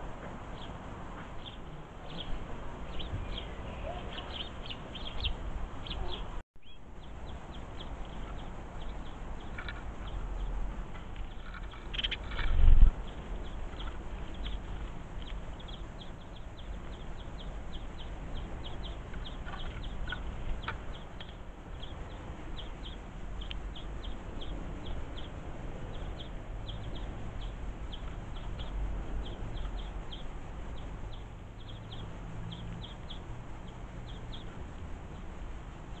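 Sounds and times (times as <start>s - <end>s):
low background rumble: 0.0s - 36.0s
sparrow chirping: 0.0s - 36.0s.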